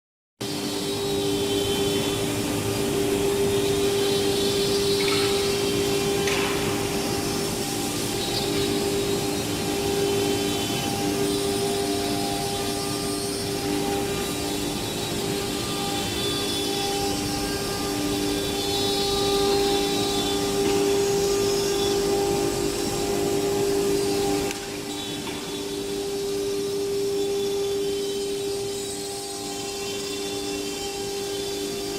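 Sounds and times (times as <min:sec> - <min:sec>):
router spindle whine: 0:00.4 - 0:31.9.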